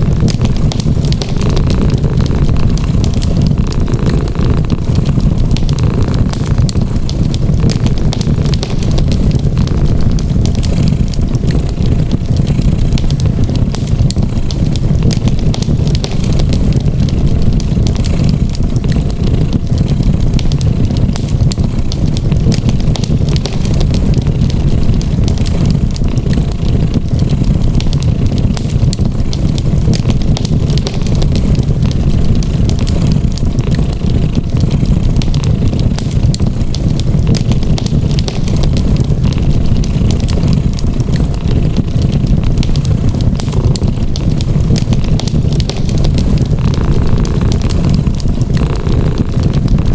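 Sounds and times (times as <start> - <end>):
cat purring: 0.0 - 49.9
wood fire crackling: 0.0 - 49.9.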